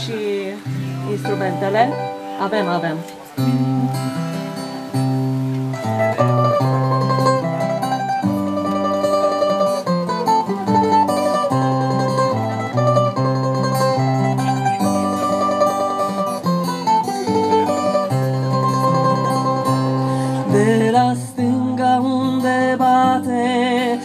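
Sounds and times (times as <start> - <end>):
acoustic guitar chords: 0.0 - 24.0
mandolin picked melody: 0.0 - 24.0.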